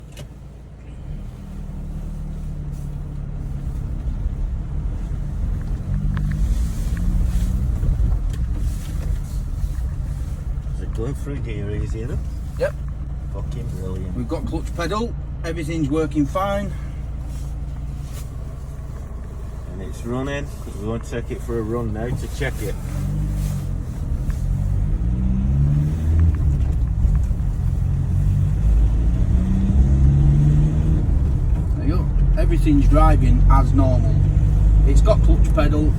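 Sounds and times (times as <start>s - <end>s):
van engine running: 0.0s - 35.9s.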